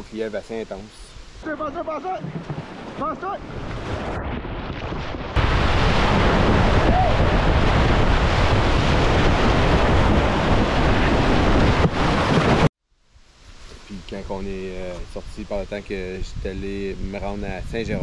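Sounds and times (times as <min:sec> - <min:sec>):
wind buffeting microphone: 0:01.4 - 0:12.7, 0:14.8 - 0:18.0.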